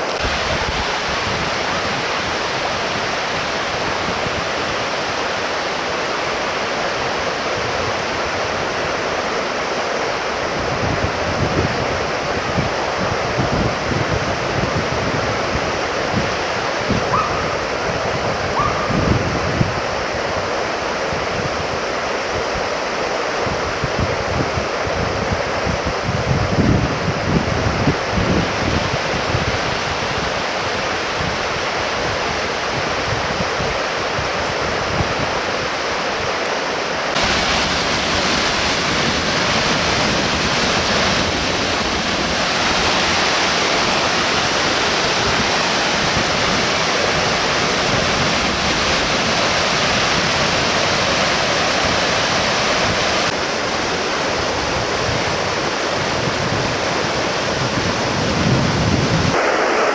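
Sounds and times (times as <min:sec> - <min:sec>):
waterfall pouring and splashing: 0:00.0 - 0:59.9.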